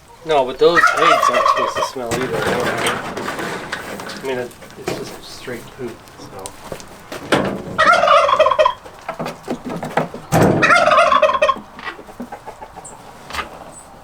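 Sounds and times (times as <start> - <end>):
chickens calling with warble: 0.0 - 14.0.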